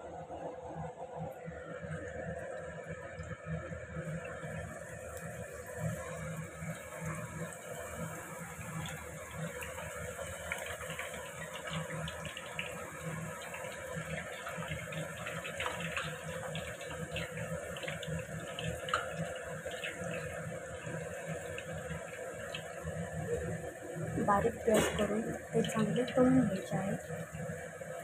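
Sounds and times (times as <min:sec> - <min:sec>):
potatoes sizzling in hot oil: 0:04.0 - 0:28.0.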